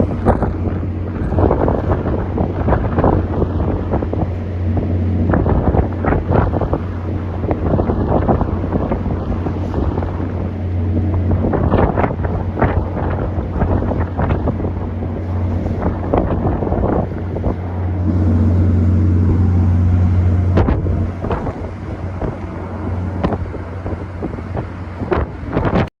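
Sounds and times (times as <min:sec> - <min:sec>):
low engine-like drone: 0:00.0 - 0:25.9
wind buffeting microphone: 0:00.0 - 0:25.9.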